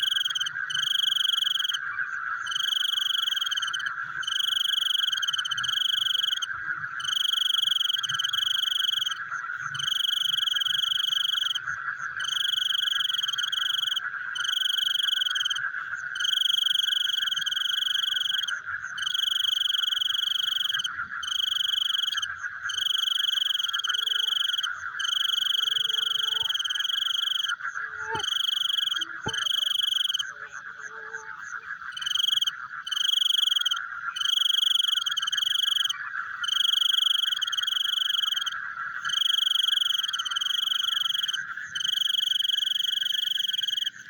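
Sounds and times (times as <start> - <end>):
frogs trilling: 0.0 - 44.0.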